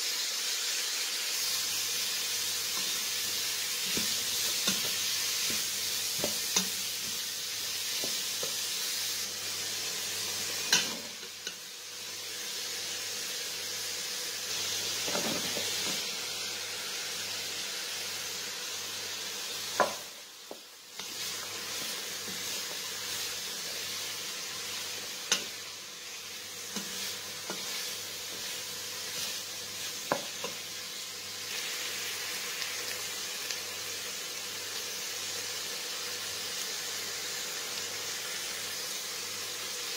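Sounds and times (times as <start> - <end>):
vegetables sizzling in pot: 0.0 - 39.9.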